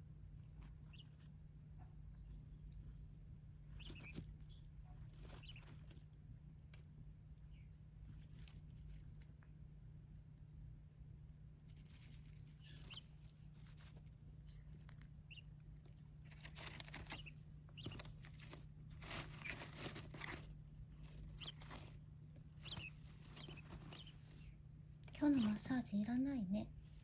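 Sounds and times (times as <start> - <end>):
birds scratching in bedding: 0.2 - 1.4, 2.3 - 6.2, 7.9 - 9.4, 11.6 - 27.0.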